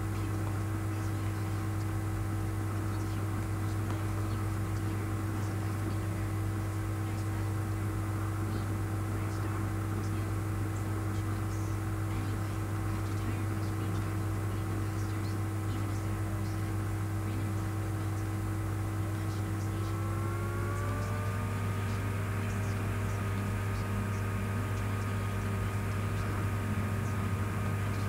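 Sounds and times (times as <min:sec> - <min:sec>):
electrical fan hum: 0:00.0 - 0:28.0.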